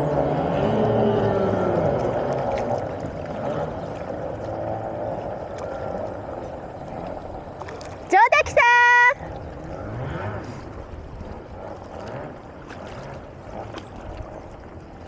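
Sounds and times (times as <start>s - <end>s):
distant boat engines droning: 0.0s - 15.0s
water lapping and splashing: 0.0s - 15.0s.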